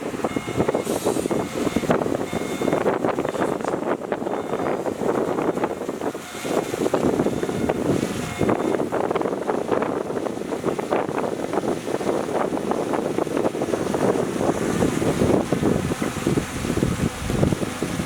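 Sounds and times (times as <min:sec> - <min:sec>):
heavy diesel machinery engine: 0:00.0 - 0:18.0.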